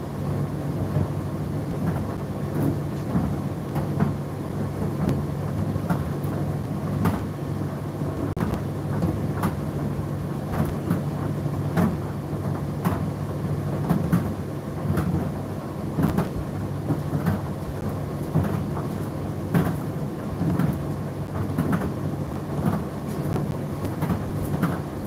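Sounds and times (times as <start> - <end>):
tumble dryer humming: 0.0 - 25.0.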